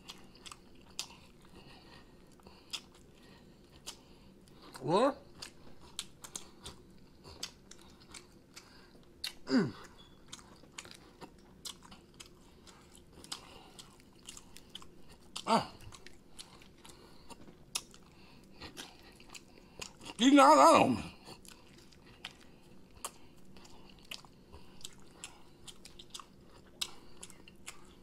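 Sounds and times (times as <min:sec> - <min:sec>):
chewing and biting: 0:00.0 - 0:20.2, 0:21.0 - 0:28.0.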